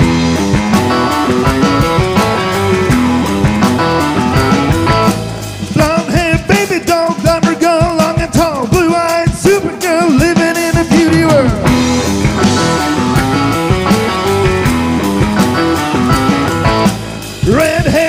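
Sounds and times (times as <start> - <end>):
bending electric guitar lead melody: 0.0 - 18.0
live rock band playing: 0.0 - 18.0.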